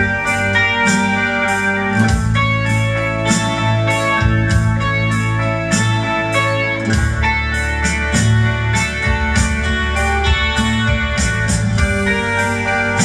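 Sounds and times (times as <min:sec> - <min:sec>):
guitar-like melody: 0:00.0 - 0:13.0
regular percussion strikes: 0:00.0 - 0:13.0.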